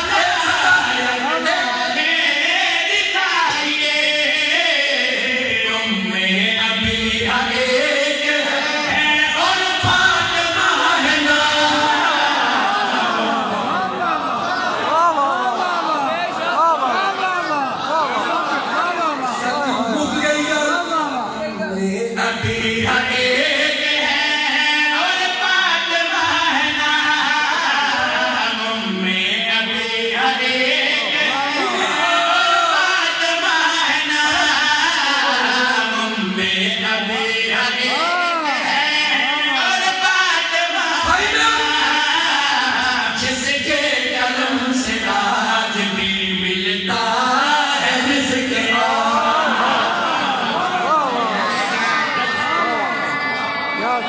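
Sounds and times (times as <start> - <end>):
men singing devotional song: 0.0 - 13.6, 21.6 - 52.0.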